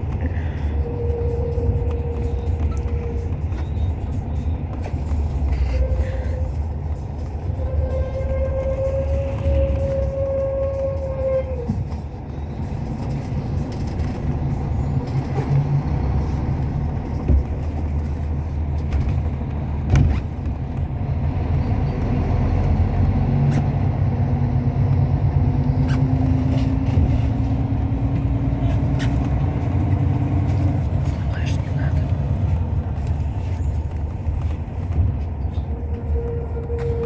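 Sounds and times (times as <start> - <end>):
bus engine drone and road rumble: 0.0 - 37.0.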